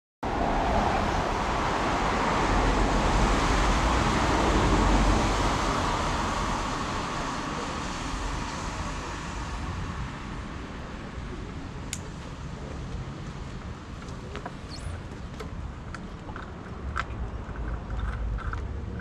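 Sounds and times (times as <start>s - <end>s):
road traffic rumble: 0.2s - 19.0s.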